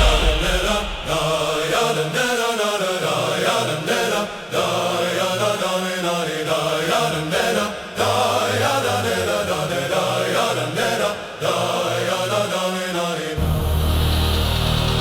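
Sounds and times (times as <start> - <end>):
choir chanting: 0.0 - 15.0.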